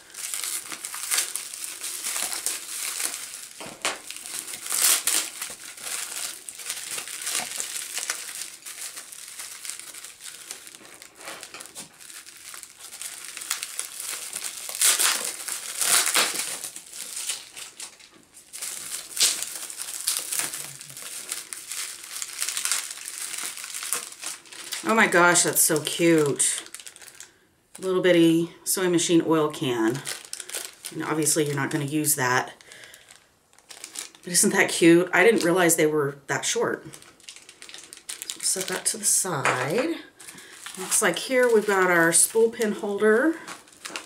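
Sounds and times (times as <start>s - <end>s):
bubble wrap crinkling: 0.0s - 28.4s, 29.5s - 35.8s, 36.4s - 44.0s.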